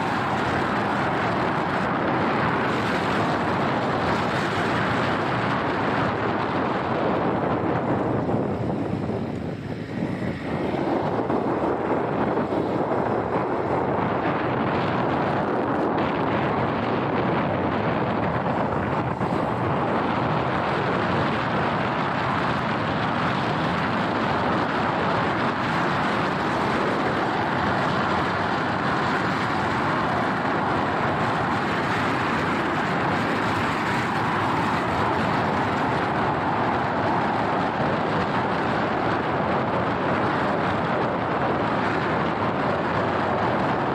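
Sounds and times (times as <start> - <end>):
motorbike road noise: 0.0 - 43.9
wind rushing: 0.0 - 43.9.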